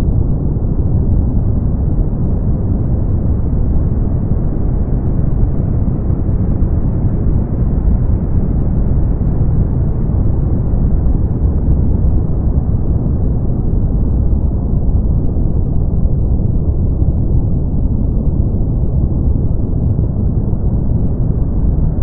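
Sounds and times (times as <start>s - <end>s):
brown noise rumble: 0.0s - 22.0s.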